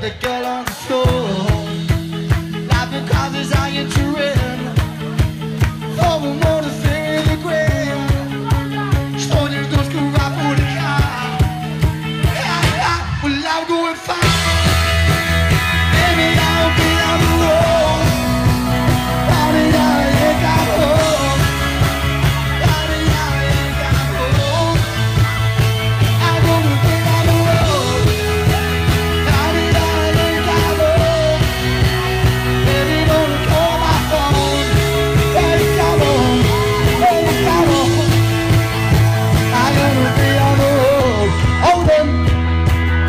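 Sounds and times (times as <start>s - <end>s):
person singing lead vocal: 0.0s - 42.5s
bass guitar long notes: 0.0s - 43.0s
rock band playing: 0.0s - 43.0s.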